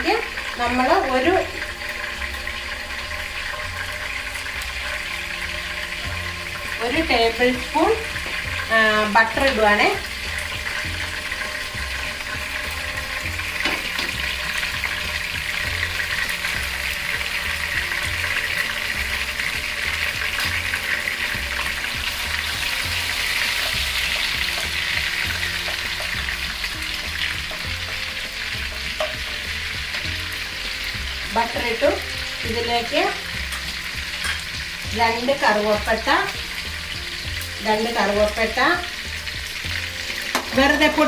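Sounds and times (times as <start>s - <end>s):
butter sizzling in frying oil: 0.0s - 41.0s.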